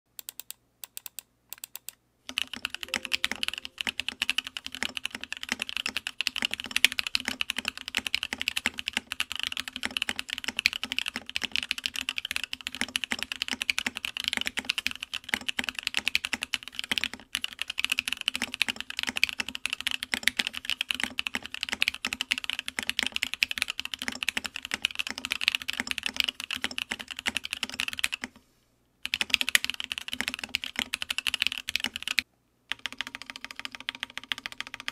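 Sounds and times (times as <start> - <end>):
fast mechanical keyboard typing: 0.2 - 28.3, 29.0 - 34.9.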